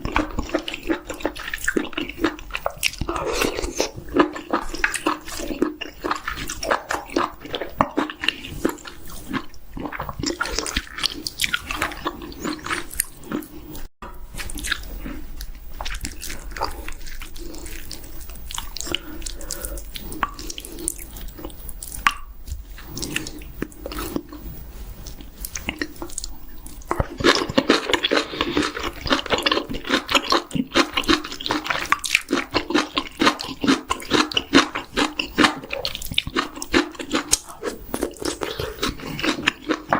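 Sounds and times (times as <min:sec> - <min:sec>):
chewing and biting chicken: 0:00.0 - 0:39.9.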